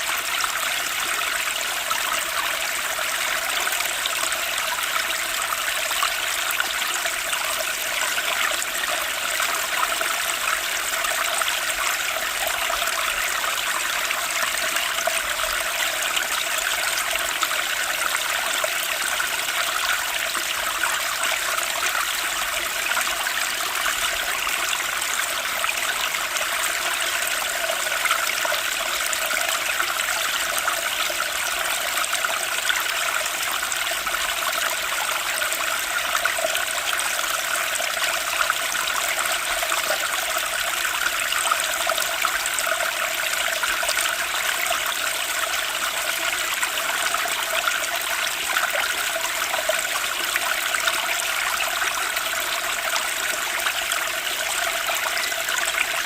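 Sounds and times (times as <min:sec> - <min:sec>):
trickling stream: 0:00.0 - 0:56.0.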